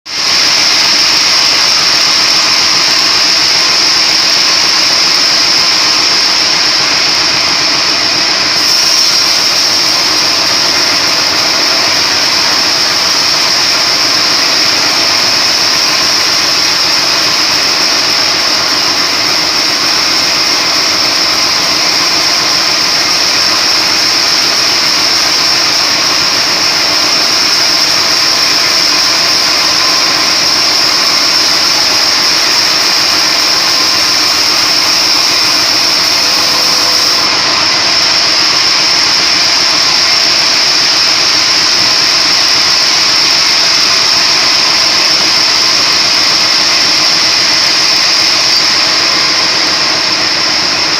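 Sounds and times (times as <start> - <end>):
splitting machine running: 0.1 - 50.9.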